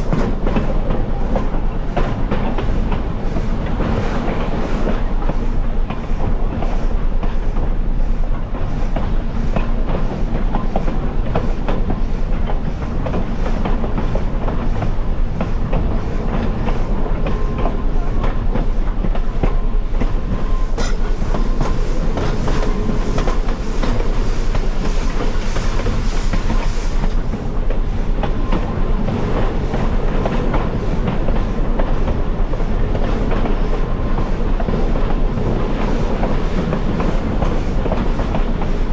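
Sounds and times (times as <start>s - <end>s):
train rumble: 0.0s - 38.9s
wheels clicking over rail joints: 0.0s - 38.9s.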